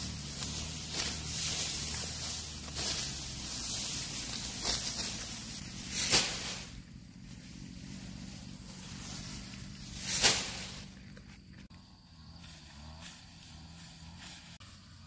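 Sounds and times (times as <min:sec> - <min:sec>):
grass swishing rustles: 0:00.0 - 0:15.0.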